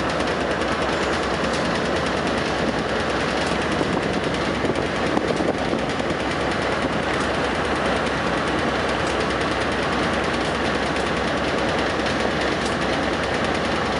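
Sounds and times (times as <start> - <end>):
freight train wheels clattering: 0.0 - 13.9.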